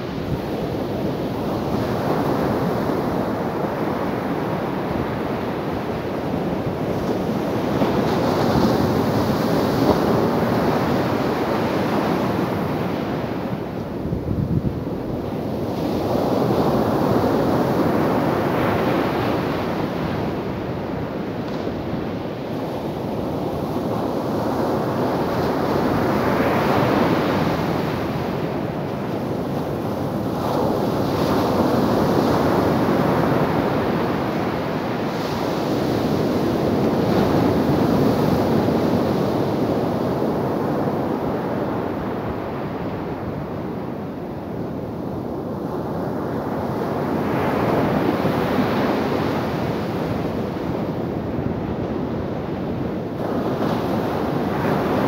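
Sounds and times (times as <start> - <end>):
waves crashing on beach: 0.0 - 55.0.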